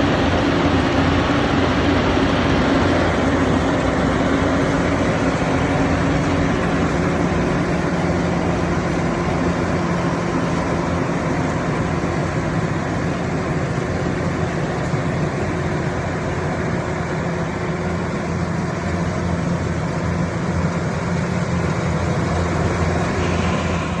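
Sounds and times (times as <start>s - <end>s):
harvester engine droning: 0.0s - 24.0s.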